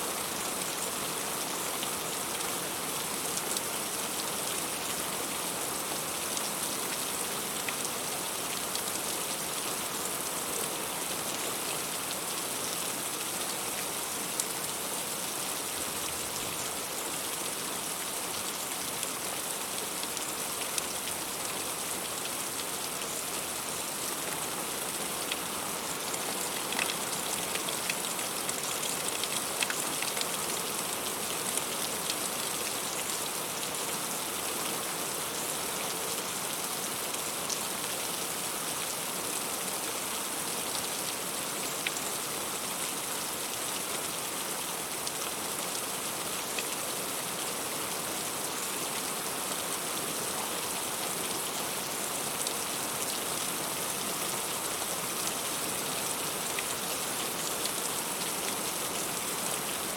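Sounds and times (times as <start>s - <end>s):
heavy rain falling on fruit: 0.0s - 59.9s.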